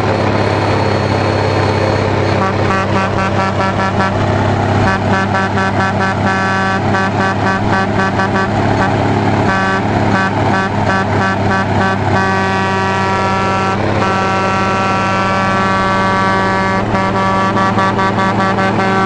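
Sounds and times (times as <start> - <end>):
diesel truck engine pulsing: 0.0 - 19.0.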